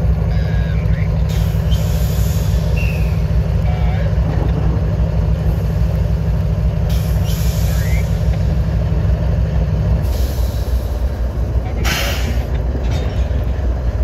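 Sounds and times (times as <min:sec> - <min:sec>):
diesel locomotive engine throbbing: 0:00.0 - 0:14.0.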